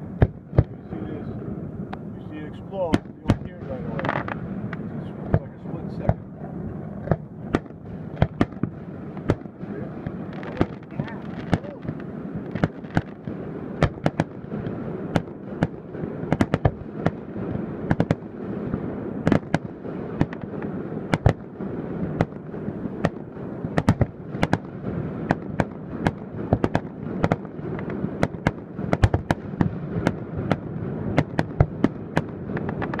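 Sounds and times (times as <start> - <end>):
steady rumble: 0.0 - 33.0.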